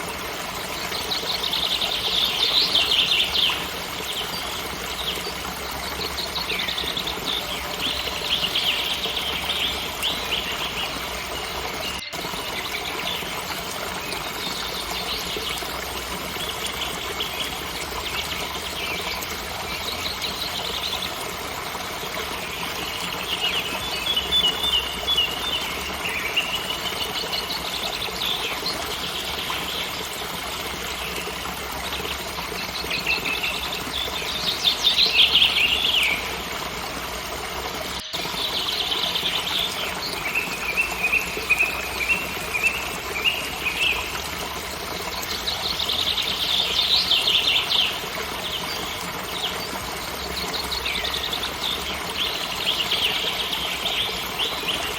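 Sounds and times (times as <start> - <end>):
songbirds chirping and trilling: 0.0 - 36.7, 37.9 - 54.9.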